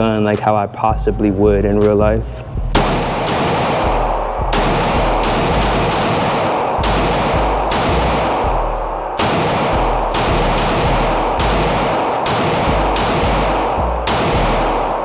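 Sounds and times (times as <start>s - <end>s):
pistol shots ringing indoors: 2.8s - 15.0s.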